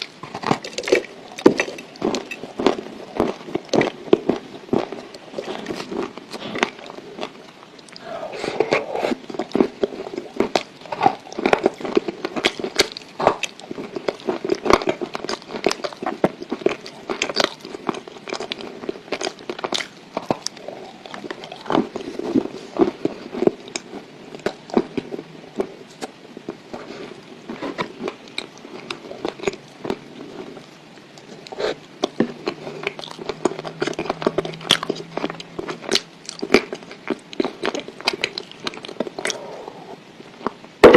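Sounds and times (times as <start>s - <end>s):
crunchy chewing of clay: 0.0s - 40.9s.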